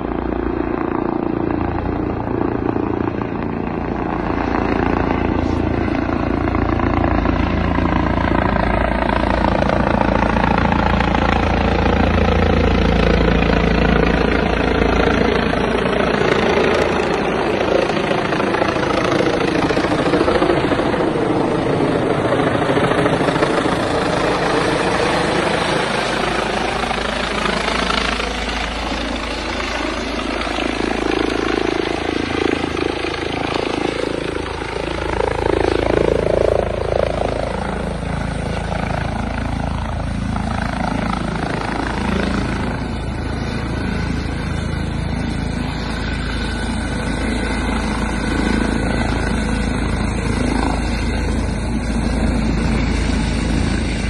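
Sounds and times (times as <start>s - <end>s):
helicopter flying overhead: 0.0s - 54.0s.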